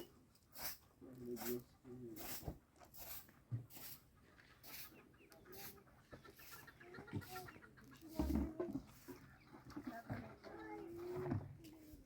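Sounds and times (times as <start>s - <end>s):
chickens clucking faintly: 0.0s - 12.0s.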